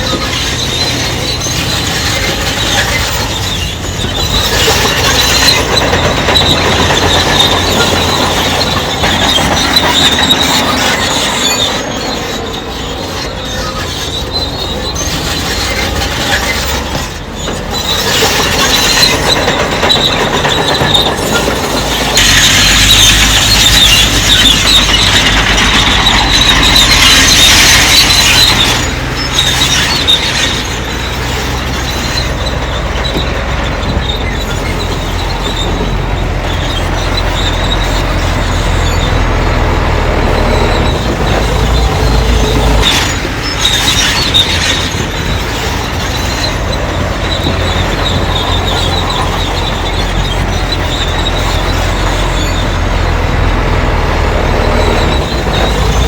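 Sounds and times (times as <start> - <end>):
bulldozer diesel engine: 0.0 - 56.0
steel tracks squealing and clanking: 0.0 - 56.0.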